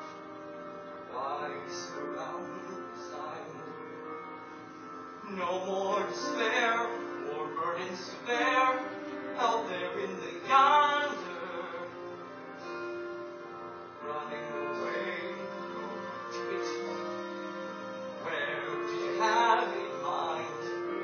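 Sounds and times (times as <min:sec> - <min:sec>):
soft instrumental accompaniment: 0:00.0 - 0:21.0
man singing a ballad: 0:01.1 - 0:03.9, 0:05.2 - 0:21.0.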